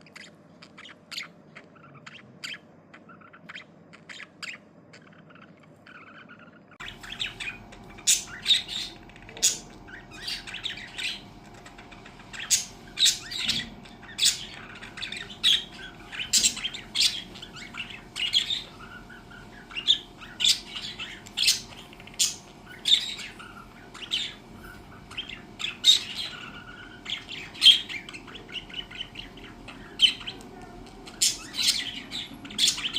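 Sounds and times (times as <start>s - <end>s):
budgerigars chirping and squawking: 0.0s - 32.9s
faint steady hum: 0.0s - 32.9s.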